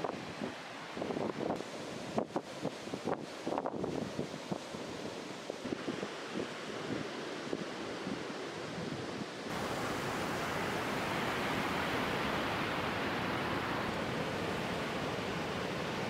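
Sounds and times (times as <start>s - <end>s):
surf washing onto sandy beach: 0.0s - 16.0s.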